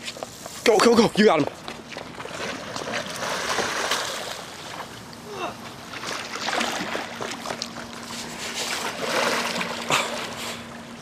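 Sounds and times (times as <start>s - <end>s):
shallow water splashing: 1.9s - 10.9s.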